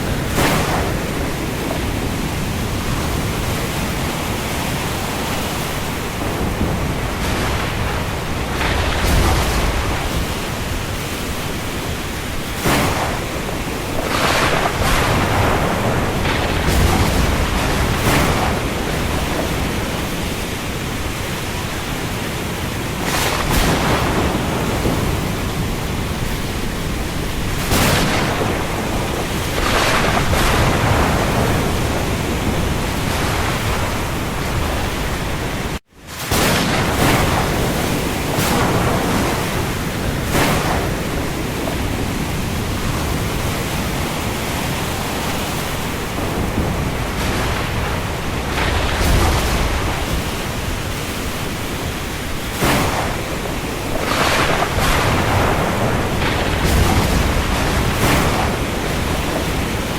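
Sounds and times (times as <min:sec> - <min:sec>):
heavy rain over the sea: 0:00.0 - 0:59.9.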